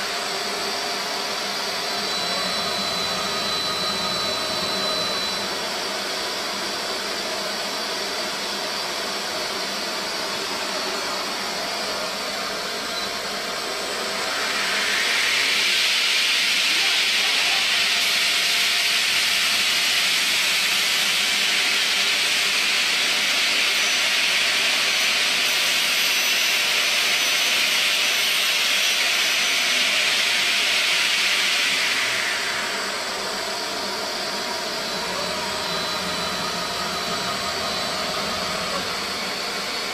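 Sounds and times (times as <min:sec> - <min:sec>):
circular saw cutting slab: 0:00.0 - 0:08.7, 0:09.6 - 0:39.9.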